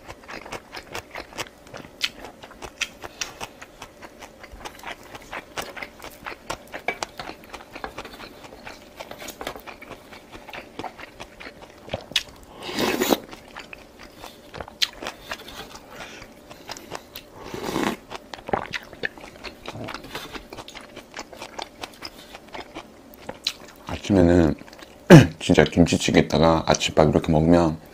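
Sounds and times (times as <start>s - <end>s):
person chewing and crunching food: 0.0s - 25.8s.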